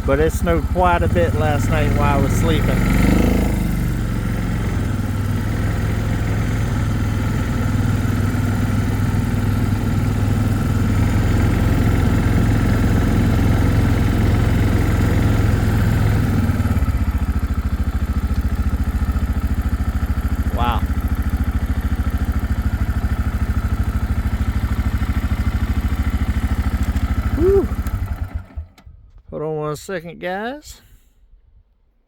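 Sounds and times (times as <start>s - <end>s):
atv engine running: 0.0s - 28.9s.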